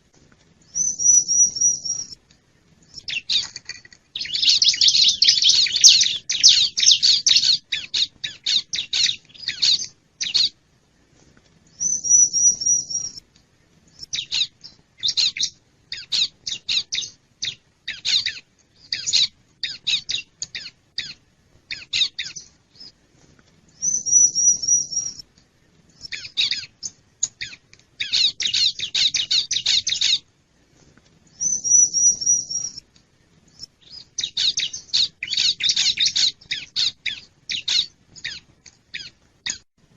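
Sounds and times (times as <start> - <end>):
bird scratchy chirps: 0.7 - 2.2, 2.9 - 10.6, 11.7 - 13.2, 14.0 - 23.0, 23.7 - 25.2, 25.9 - 30.2, 31.3 - 32.8, 33.5 - 39.6.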